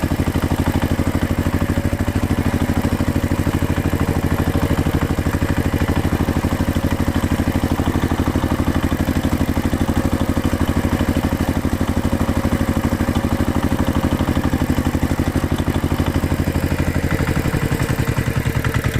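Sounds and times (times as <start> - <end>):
diesel engine throbbing: 0.0 - 18.9.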